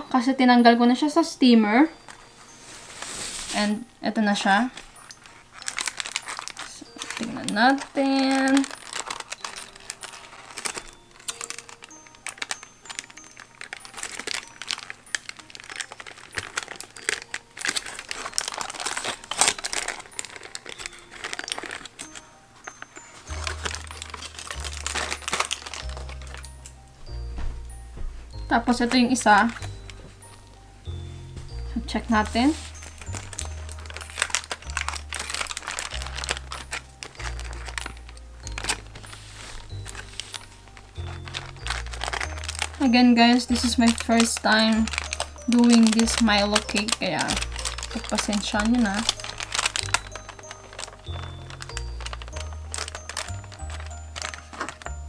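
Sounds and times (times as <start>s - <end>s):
soft background music: 0.0s - 55.0s
foil crinkling: 1.0s - 55.0s.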